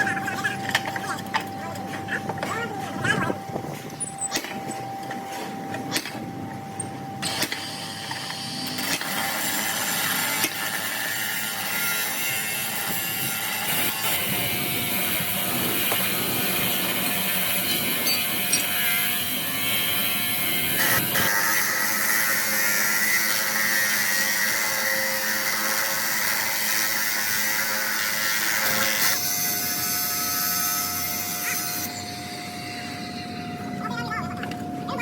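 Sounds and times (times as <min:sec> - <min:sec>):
metalworking machinery running: 0:00.0 - 0:35.0.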